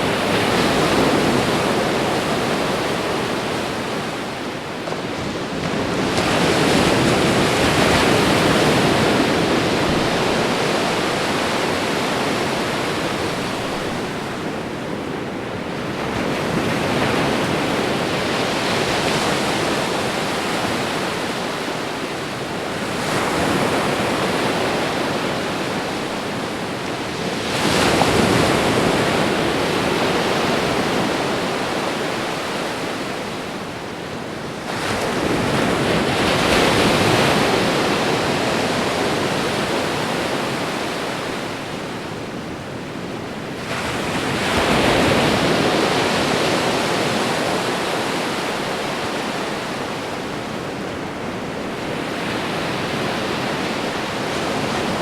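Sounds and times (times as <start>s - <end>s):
ocean waves crashing on shore: 0.0s - 55.0s.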